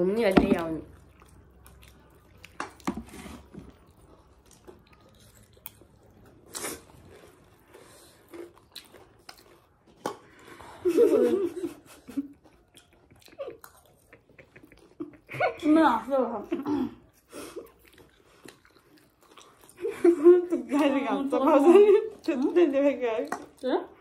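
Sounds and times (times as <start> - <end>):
chewing and crunching: 0.2 - 10.8, 12.1 - 15.7, 17.1 - 24.0.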